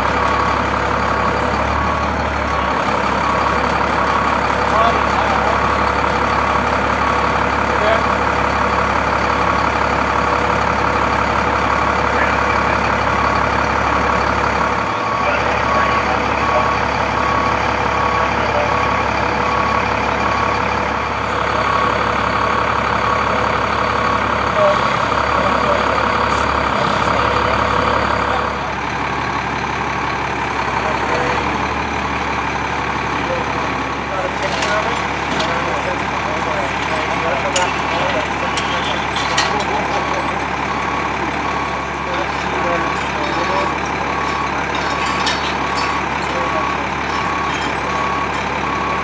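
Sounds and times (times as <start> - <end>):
truck diesel engine running: 0.0 - 49.0.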